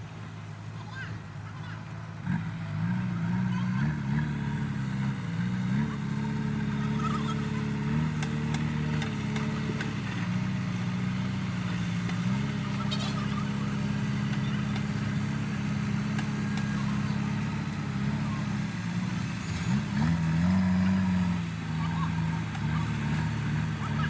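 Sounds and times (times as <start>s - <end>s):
tractor engine revving under load: 0.0s - 24.0s.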